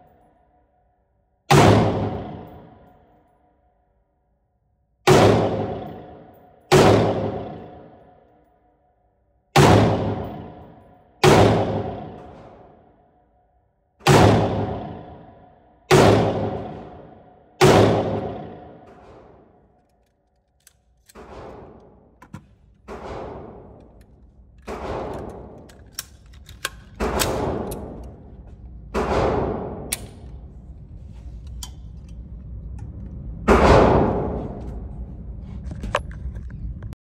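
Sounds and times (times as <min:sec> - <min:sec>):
gunshots echoing indoors: 0:00.0 - 0:31.3, 0:33.2 - 0:35.4.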